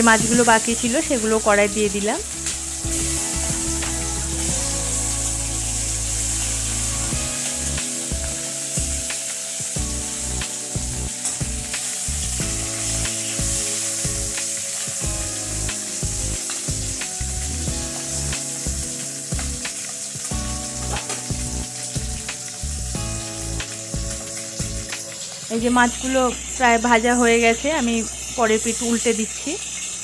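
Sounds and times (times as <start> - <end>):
background music: 0.0 - 30.0
fish sizzling in oil: 0.0 - 30.0.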